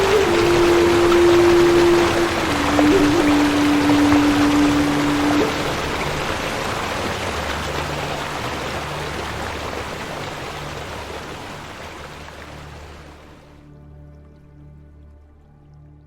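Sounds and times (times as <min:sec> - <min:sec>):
waterfall rushing water: 0:00.0 - 0:13.6.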